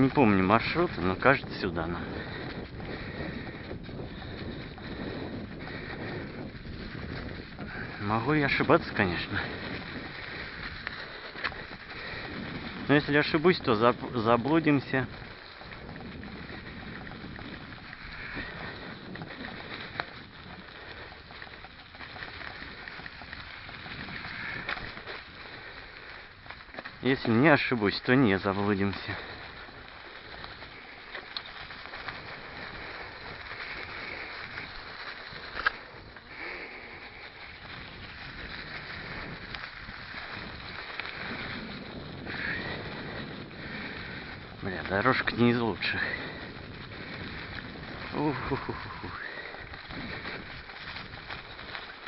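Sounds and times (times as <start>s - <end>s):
bike rattles and knocks: 0.0s - 52.0s
tyre and wind noise: 0.0s - 52.0s.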